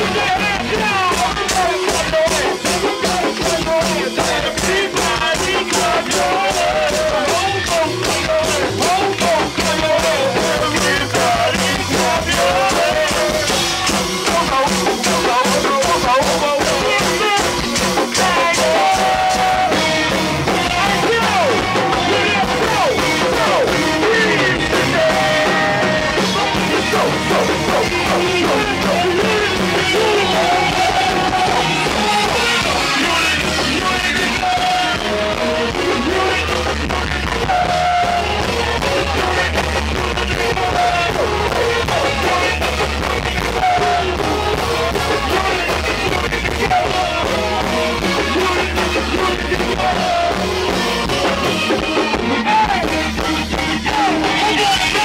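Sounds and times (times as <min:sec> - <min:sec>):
go-go band music: 0:00.0 - 0:55.0
person singing and shouting: 0:00.0 - 0:55.0.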